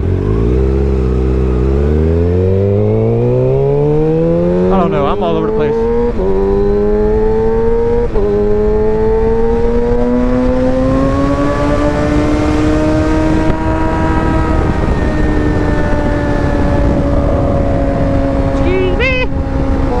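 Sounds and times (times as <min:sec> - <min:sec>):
motorcycle engine upshifting: 0:00.0 - 0:20.0
wind and road noise: 0:00.0 - 0:20.0.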